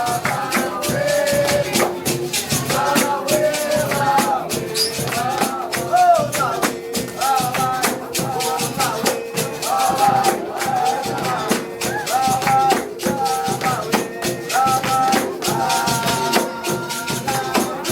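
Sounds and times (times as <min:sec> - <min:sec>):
percussion beat with tambourine: 0:00.0 - 0:17.9
voices singing: 0:00.0 - 0:17.9.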